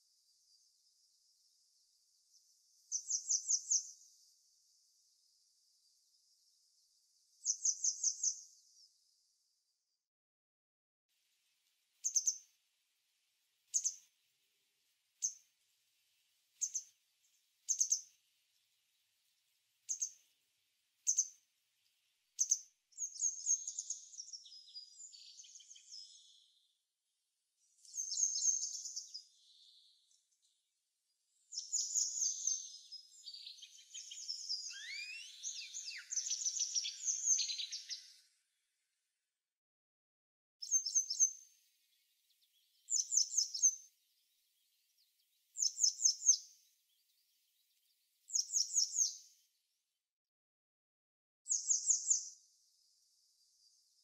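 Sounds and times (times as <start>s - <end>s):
songbirds chirping: 0.0s - 10.0s, 11.2s - 38.9s, 40.6s - 49.9s, 51.5s - 54.0s.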